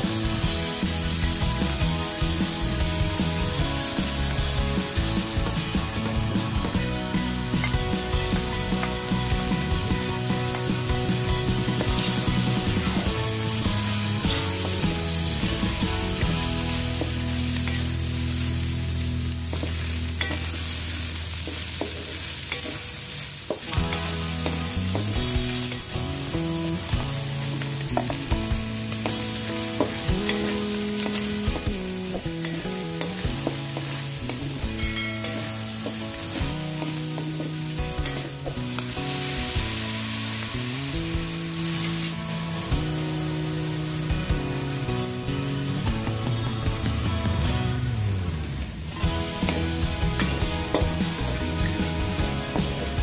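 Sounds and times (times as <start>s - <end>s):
food sizzling in a wok: 0.0s - 53.0s
soft background music: 0.0s - 53.0s.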